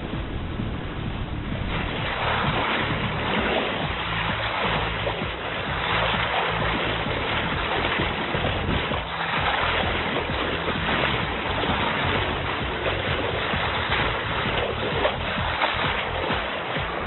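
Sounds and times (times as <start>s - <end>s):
background music: 0.0s - 17.0s
water rushing along boat hull: 0.0s - 17.0s.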